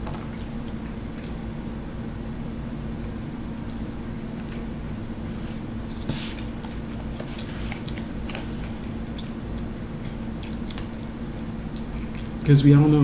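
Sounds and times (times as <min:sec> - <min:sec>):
person chewing food: 0:00.0 - 0:04.7, 0:05.6 - 0:12.5
steady low hum: 0:00.0 - 0:13.0.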